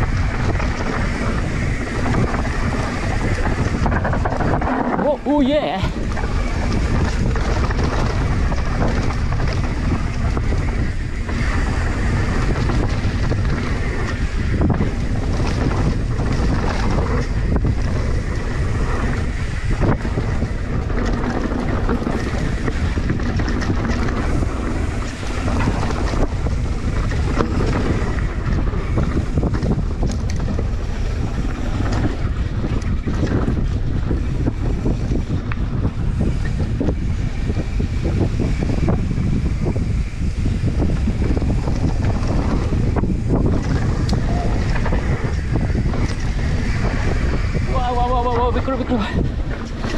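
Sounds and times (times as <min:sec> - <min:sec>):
bike knocking and rattling: 0:00.0 - 0:49.9
wind buffeting microphone: 0:00.0 - 0:49.9.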